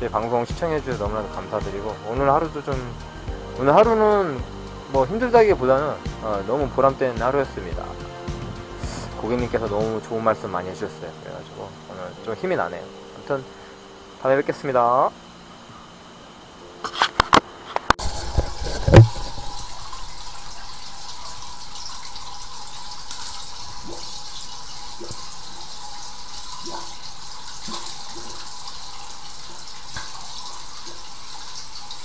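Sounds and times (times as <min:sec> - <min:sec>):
drain-jetting hose water rush: 0:00.0 - 0:15.6, 0:17.9 - 0:32.0.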